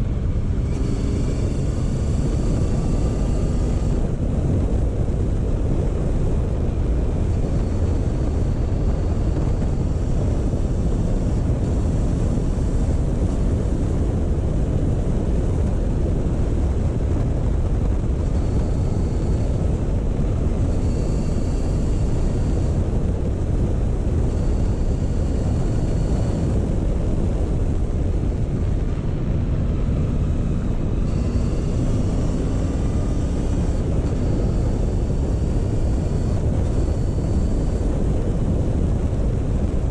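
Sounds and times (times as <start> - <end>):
motorcycle engine rumble: 0.0 - 39.9
wind noise: 0.0 - 39.9.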